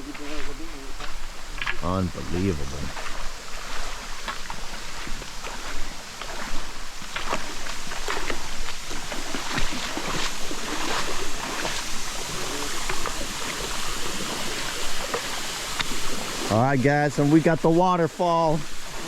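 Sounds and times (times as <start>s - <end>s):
rushing stream water: 0.0s - 19.0s.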